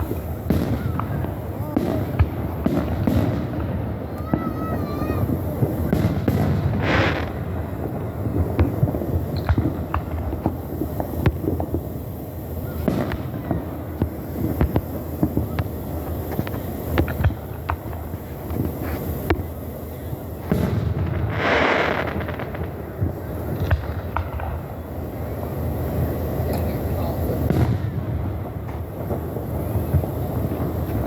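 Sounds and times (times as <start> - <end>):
fireworks bangs and crackles: 0.0 - 31.0
fireworks hissing burst: 0.0 - 31.0.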